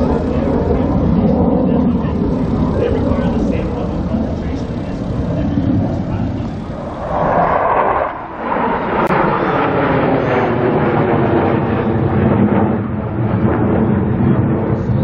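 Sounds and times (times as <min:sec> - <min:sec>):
jet aircraft roaring overhead: 0:00.0 - 0:15.0.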